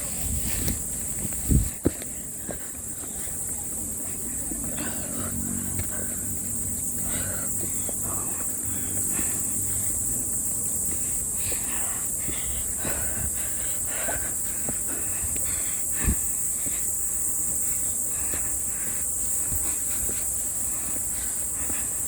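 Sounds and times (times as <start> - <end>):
footsteps on trail: 0.0 - 22.0
high-pitched insect chorus: 0.0 - 22.0.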